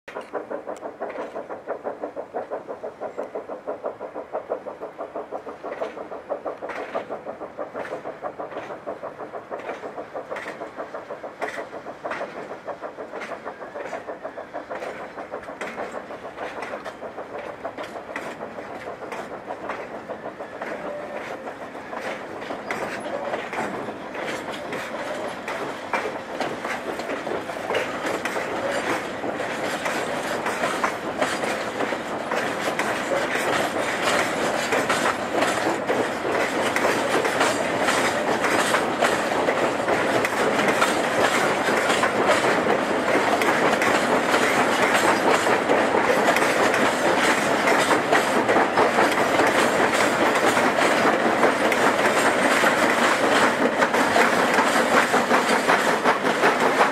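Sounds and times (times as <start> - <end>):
steam locomotive chuffing: 0.1 - 56.9
wagon wheels clicking over rails: 0.1 - 56.9.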